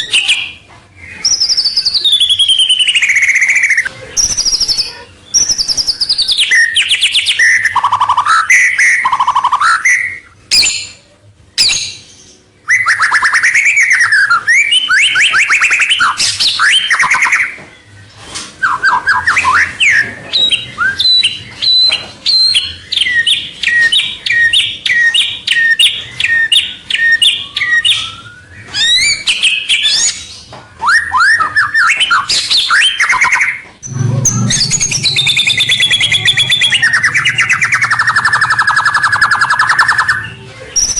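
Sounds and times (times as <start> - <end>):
bird singing whistles: 0.0 - 11.0, 11.6 - 17.6, 18.6 - 40.9.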